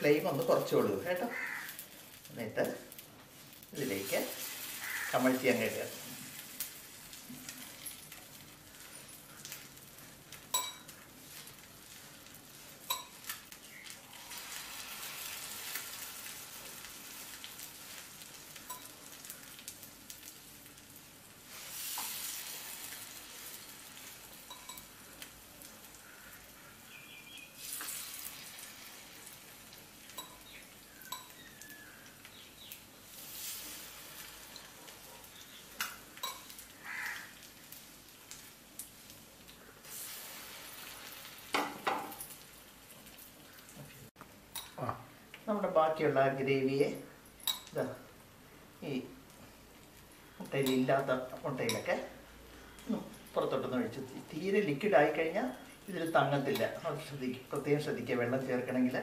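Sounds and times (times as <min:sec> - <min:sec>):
food sizzling in oil: 0:00.0 - 0:59.0.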